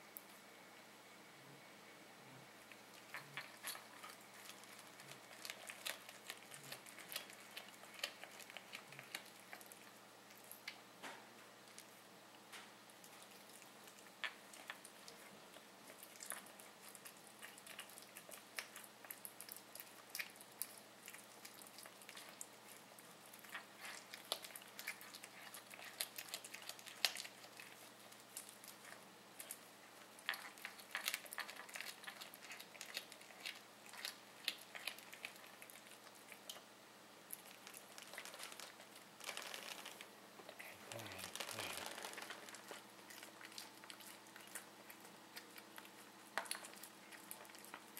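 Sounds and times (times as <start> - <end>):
cat chewing with crunches: 2.6 - 47.9.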